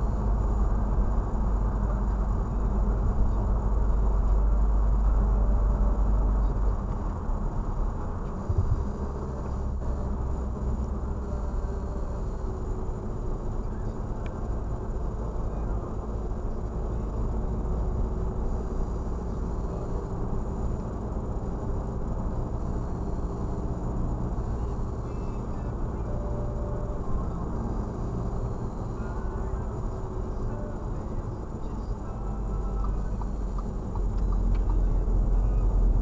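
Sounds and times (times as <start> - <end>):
car road and engine rumble: 0.0 - 36.0
faint high whine: 0.0 - 36.0.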